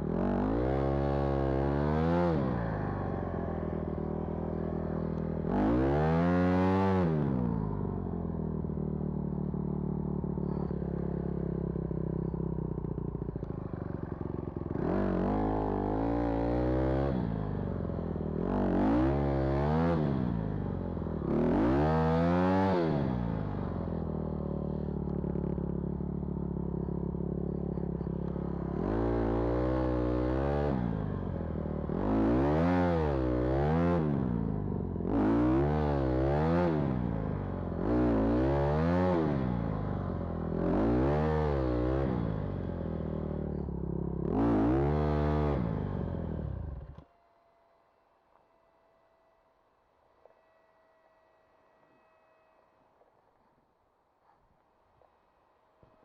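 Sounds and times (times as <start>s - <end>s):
vehicle engine revving: 0.0s - 47.0s.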